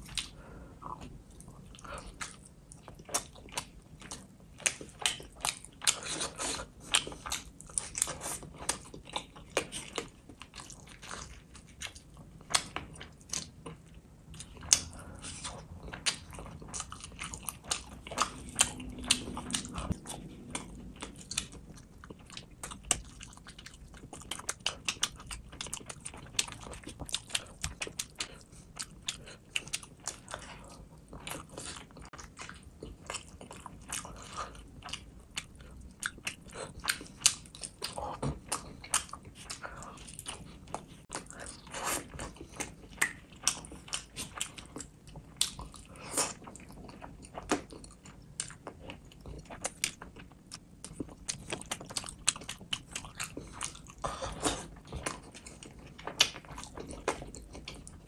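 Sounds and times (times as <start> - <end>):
person chewing and lip-smacking: 0.0 - 58.0.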